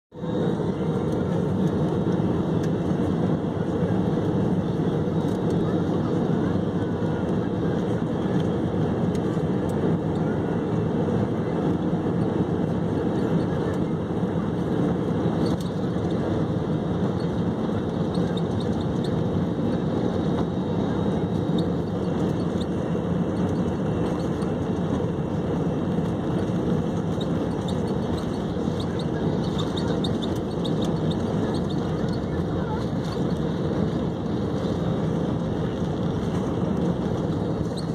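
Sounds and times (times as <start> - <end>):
jet engine rumble in cabin: 0.1 - 37.9.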